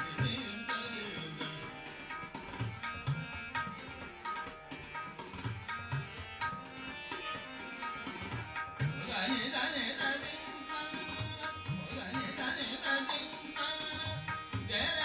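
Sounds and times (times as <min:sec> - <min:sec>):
harmonium held notes: 0:00.0 - 0:15.0
tabla fast sharp strokes: 0:00.0 - 0:15.0.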